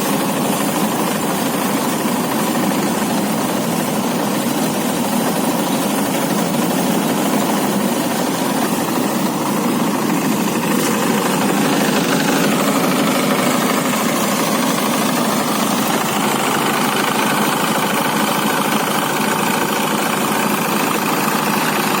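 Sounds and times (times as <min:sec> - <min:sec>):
threshing machine running: 0:00.0 - 0:22.0.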